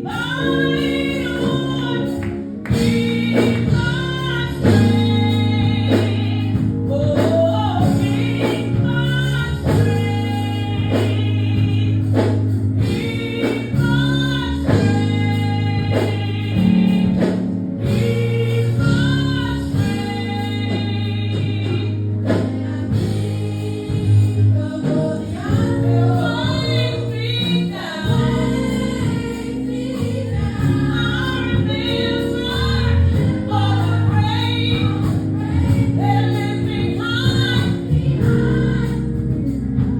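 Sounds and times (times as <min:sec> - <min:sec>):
band with bass line: 0:00.0 - 0:39.9
vocal group singing gospel: 0:00.0 - 0:39.9.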